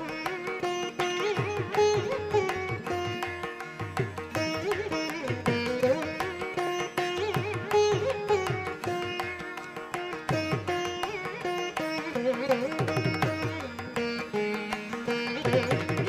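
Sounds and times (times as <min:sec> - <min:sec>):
plucked string melody: 0:00.0 - 0:16.0.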